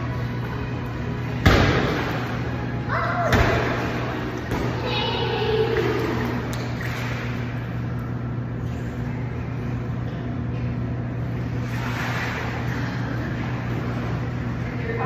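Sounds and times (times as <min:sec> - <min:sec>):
pool machinery hum: 0:00.0 - 0:15.0.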